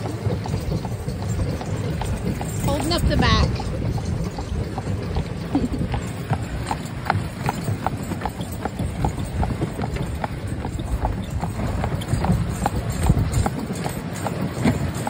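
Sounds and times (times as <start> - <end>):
horse hooves clip-clopping on asphalt: 0.0 - 15.0.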